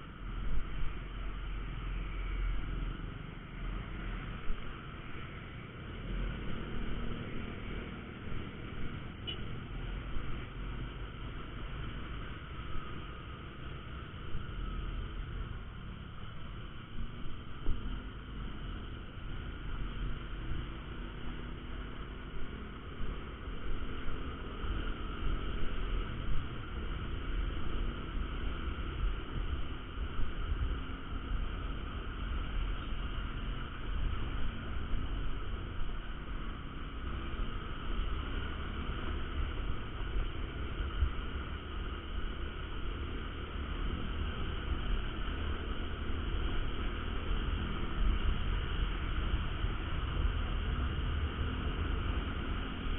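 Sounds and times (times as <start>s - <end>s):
road noise: 0.0s - 52.9s.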